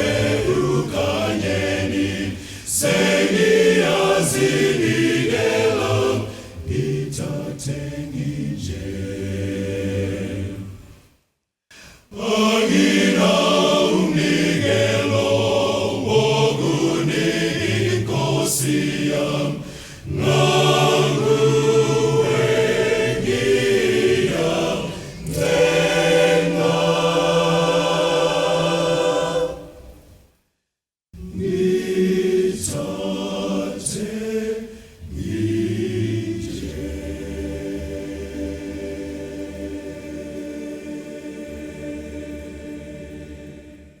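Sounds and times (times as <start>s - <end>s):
choir singing in harmony: 0.0s - 11.1s, 12.1s - 30.2s, 31.2s - 44.0s.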